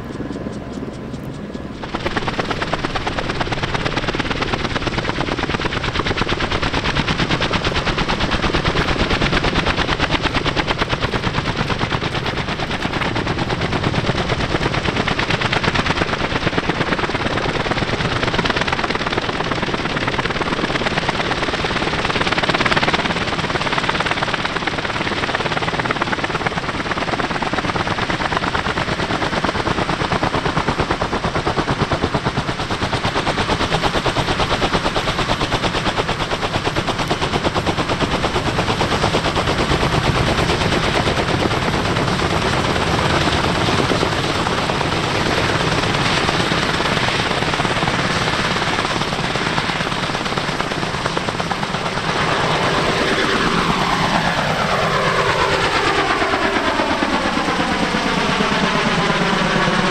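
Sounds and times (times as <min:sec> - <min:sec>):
helicopter rotor blade slap: 0:00.0 - 0:59.9
turboshaft engine: 0:00.0 - 0:59.9.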